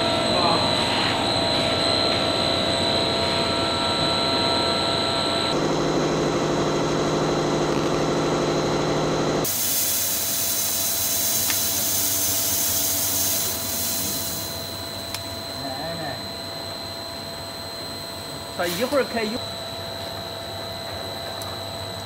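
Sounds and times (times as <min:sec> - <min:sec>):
extrusion machine drone and whine: 0:00.0 - 0:22.0.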